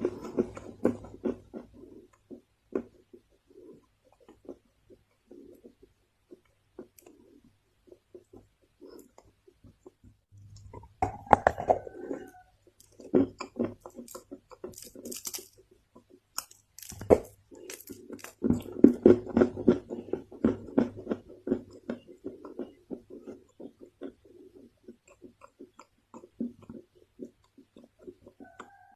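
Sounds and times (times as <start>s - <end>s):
chewing with crackly crunches: 0.0s - 28.9s.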